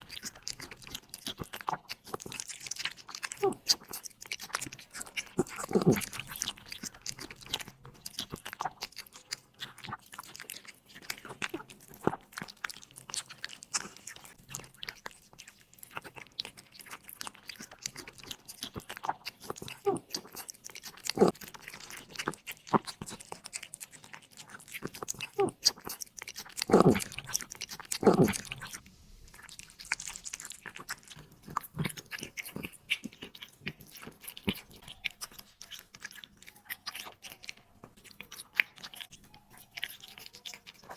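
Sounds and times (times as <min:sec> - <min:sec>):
cat crunching food: 0:00.0 - 0:40.9.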